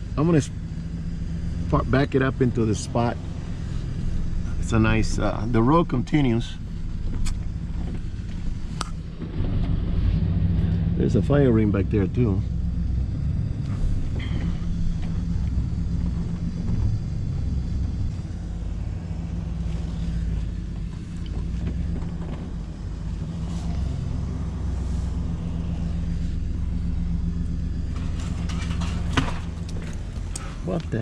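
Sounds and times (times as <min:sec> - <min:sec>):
pickup engine running: 0:00.0 - 0:31.0.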